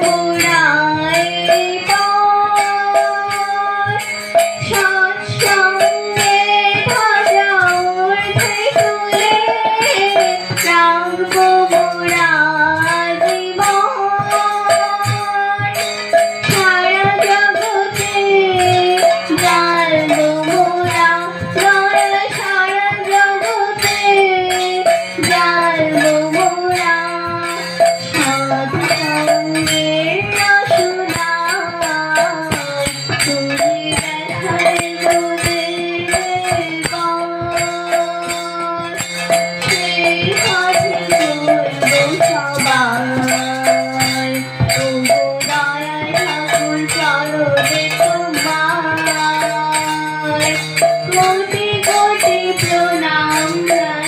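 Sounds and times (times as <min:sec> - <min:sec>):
harmonium chords: 0:00.0 - 0:54.0
woman singing: 0:00.0 - 0:54.0.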